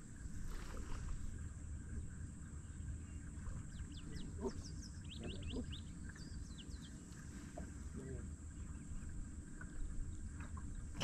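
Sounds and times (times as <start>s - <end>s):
birds chirping: 1.3s - 11.0s
lower bird calls: 1.8s - 11.0s.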